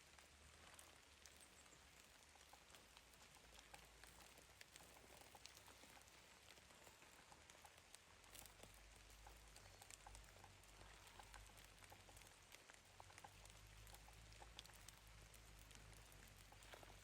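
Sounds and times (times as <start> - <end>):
light ticks and clicks: 0.0 - 17.0.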